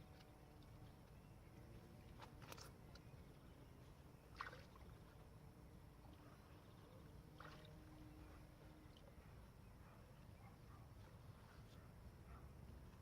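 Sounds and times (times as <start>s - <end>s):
faint low outdoor rumble: 0.0s - 13.0s.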